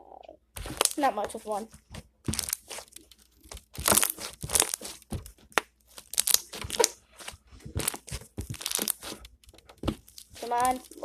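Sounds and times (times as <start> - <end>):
slime squished by hand: 0.5 - 1.1, 1.8 - 11.0
wet crackling and popping: 0.5 - 11.0.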